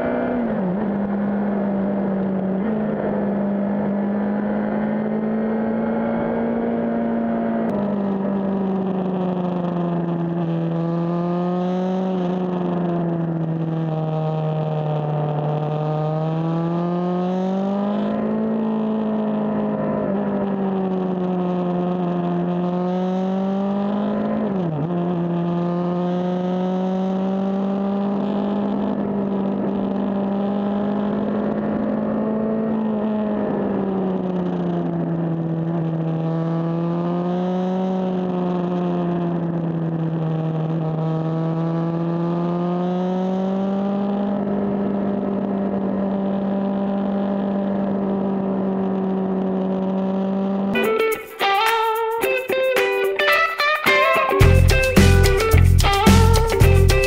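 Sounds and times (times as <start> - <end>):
motorcycle engine running: 0.0 - 45.6, 53.3 - 57.0.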